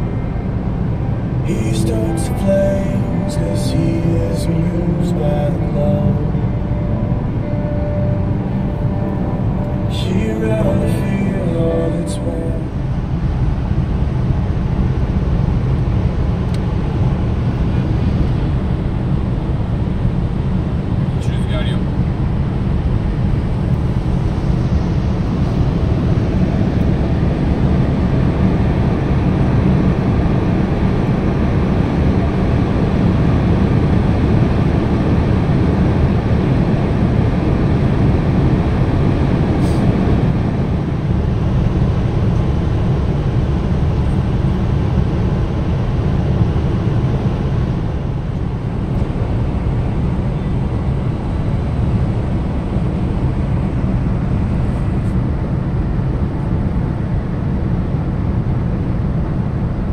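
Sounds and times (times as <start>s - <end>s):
car interior road noise: 0.0s - 59.9s.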